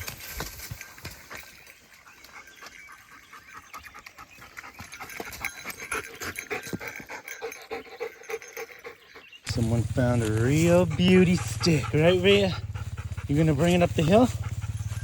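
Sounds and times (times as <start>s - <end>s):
dog panting: 2.0s - 15.0s.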